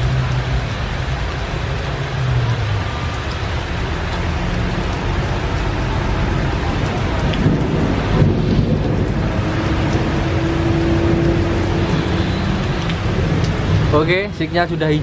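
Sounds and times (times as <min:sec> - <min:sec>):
deep rumble: 0:00.0 - 0:14.0
heavy rain: 0:00.0 - 0:15.0.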